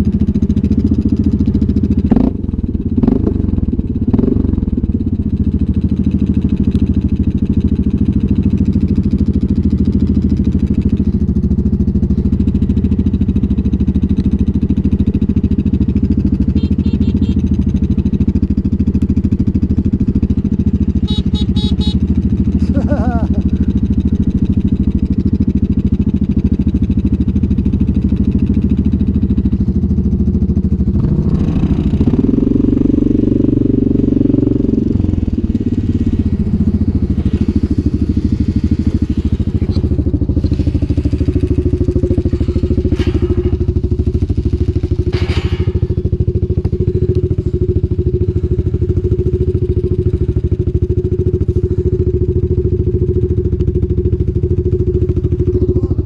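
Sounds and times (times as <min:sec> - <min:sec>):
quad engine idling and revving: 0:00.0 - 0:56.0.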